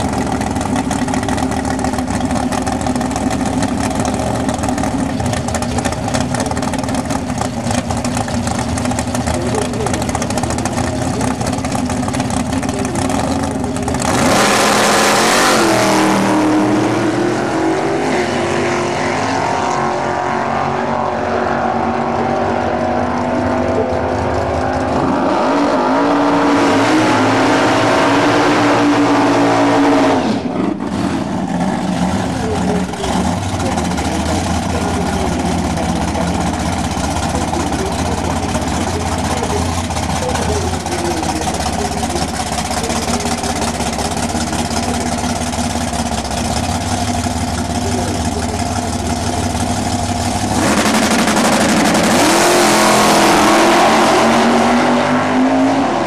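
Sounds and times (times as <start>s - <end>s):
racing engines at high revs: 0.0s - 56.0s.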